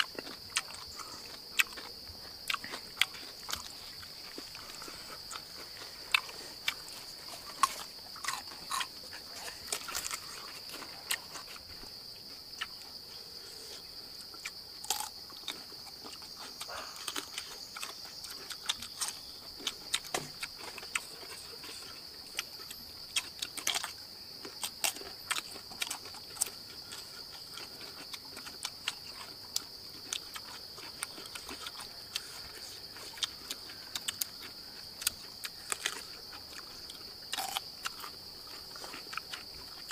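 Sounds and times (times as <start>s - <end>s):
high insect drone: 0.0s - 39.9s
person chewing and crunching: 0.0s - 39.9s.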